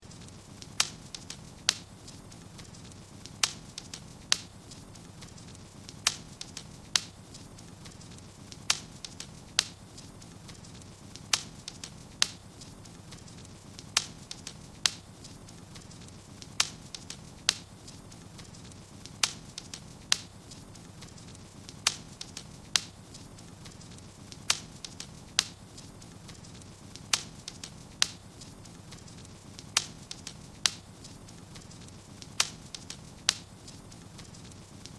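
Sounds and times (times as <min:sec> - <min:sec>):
low steady hiss: 0:00.0 - 0:34.9
wood fire crackling and popping: 0:00.0 - 0:34.9.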